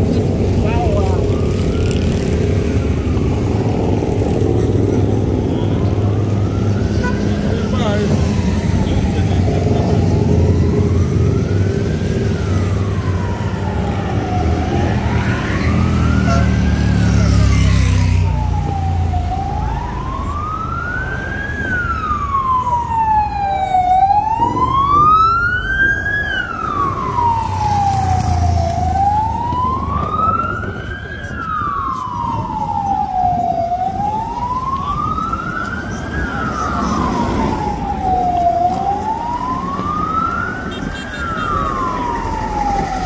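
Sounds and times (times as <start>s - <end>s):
ambulance siren wailing: 0.0s - 43.0s
passing motorbikes and cars: 0.0s - 43.0s.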